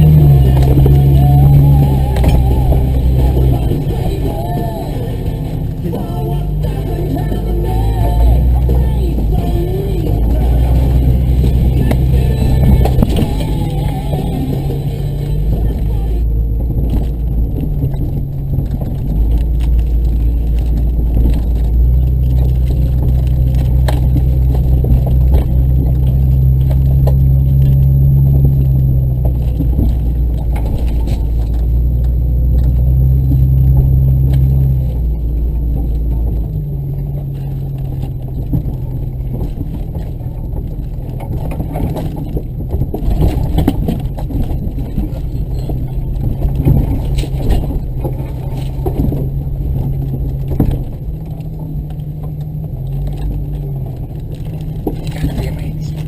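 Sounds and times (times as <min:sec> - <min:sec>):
off-road vehicle engine drone: 0:00.0 - 0:56.0
knocks and rattles: 0:07.0 - 0:56.0.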